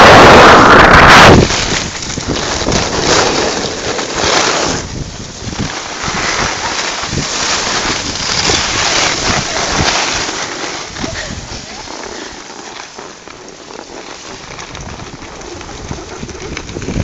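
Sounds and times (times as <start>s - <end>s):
wind buffeting microphone: 0.0s - 3.9s, 4.7s - 11.9s, 14.4s - 17.0s
skis sliding over snow: 0.0s - 17.0s.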